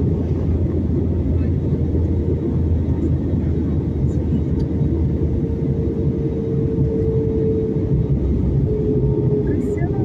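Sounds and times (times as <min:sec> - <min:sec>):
constant cabin hum: 0:00.0 - 0:10.0
jet cabin engine rumble: 0:00.0 - 0:10.0.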